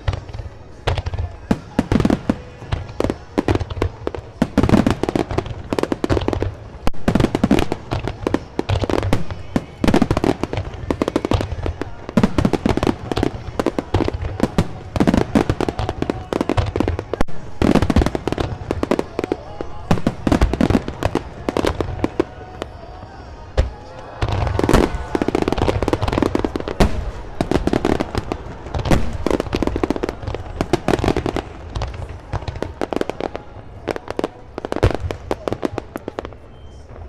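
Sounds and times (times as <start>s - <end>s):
aerial fireworks booming and cracking: 0.0s - 22.7s, 23.6s - 33.9s.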